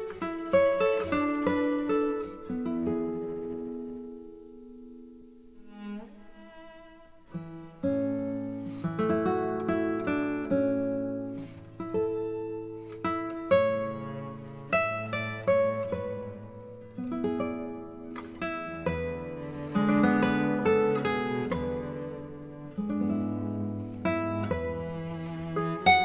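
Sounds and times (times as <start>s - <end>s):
plucked string music: 0.0s - 26.0s.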